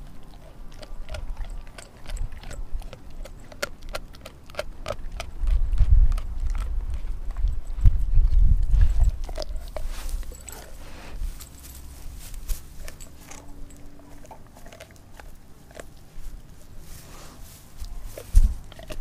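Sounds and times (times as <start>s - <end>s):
dog chewing bone: 0.0s - 17.0s, 17.8s - 19.0s.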